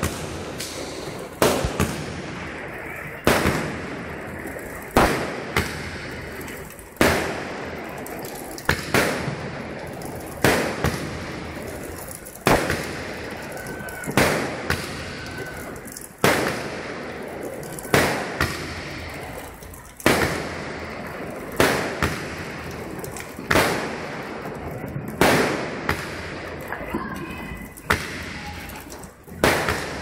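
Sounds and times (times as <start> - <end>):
fireworks bangs: 0.0 - 30.0
small fireworks pops: 0.0 - 30.0.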